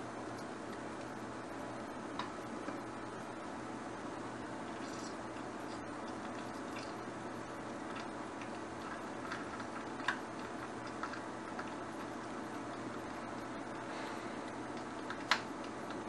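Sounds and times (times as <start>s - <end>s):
pot of water bubbling: 0.0s - 16.0s.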